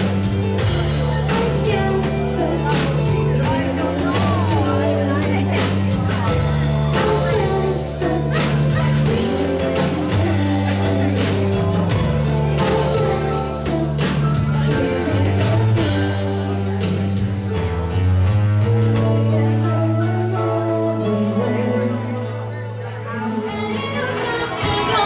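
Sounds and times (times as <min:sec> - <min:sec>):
person singing: 0:00.0 - 0:17.9, 0:18.6 - 0:25.0
bass line: 0:00.0 - 0:25.0.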